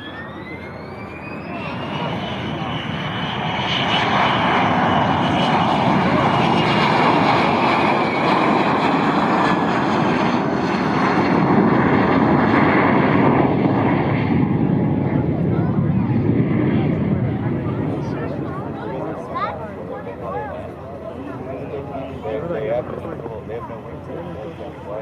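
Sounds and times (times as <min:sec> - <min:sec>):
jet roar: 0:00.0 - 0:25.0.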